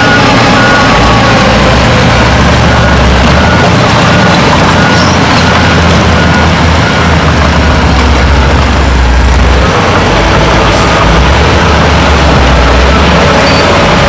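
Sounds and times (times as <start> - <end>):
heavy diesel engine running: 0.0 - 14.0
reversing alarm beeping: 0.0 - 14.0.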